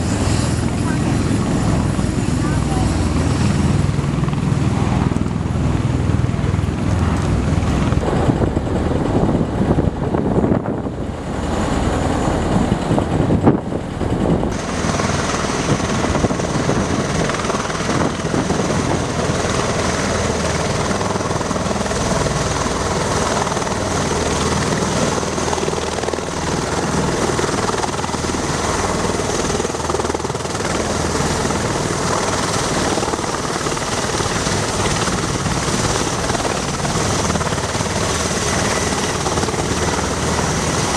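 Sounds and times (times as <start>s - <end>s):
aircraft rotors thrumming: 0.0s - 40.9s
turbine engine whine: 0.0s - 40.9s.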